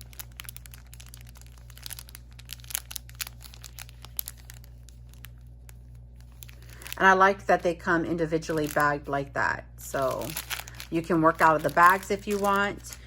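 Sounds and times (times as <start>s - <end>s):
plastic bags crinkling: 0.0s - 9.2s, 9.9s - 13.0s
steady low hum: 0.0s - 13.0s.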